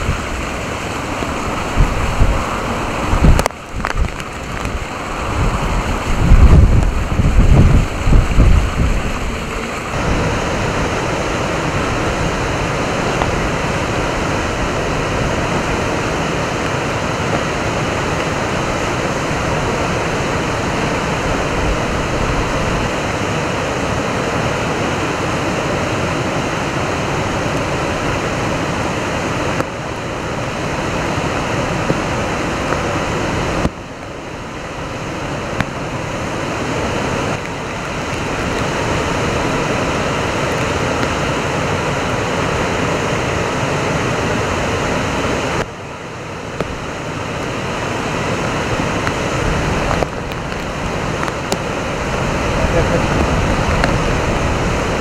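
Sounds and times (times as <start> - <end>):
river rushing over a weir: 0.0 - 55.0
wind rumbling on microphone: 0.0 - 55.0.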